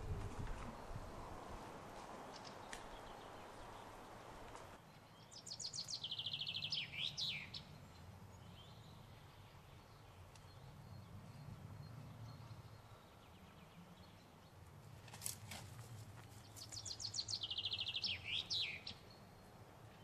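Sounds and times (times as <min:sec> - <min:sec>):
songbird singing: 0:00.0 - 0:14.8, 0:16.3 - 0:20.0
faint outdoor background noise: 0:00.0 - 0:20.0.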